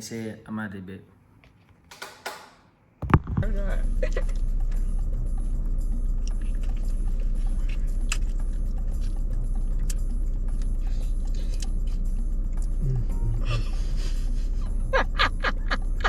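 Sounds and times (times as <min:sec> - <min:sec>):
car cabin engine rumble: 0:03.0 - 0:16.0.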